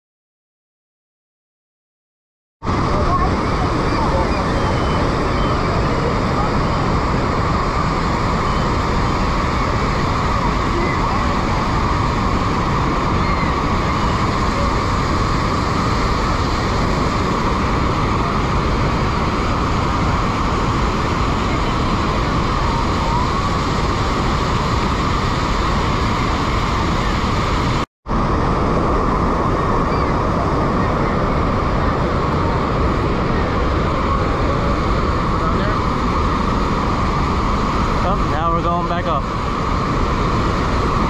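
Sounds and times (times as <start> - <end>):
waterfall rushing: 2.7 - 41.0.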